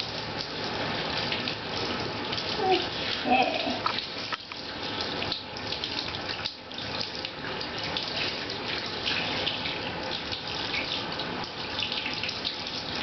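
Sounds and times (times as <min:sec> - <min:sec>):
shower water splashing: 0:00.0 - 0:13.0.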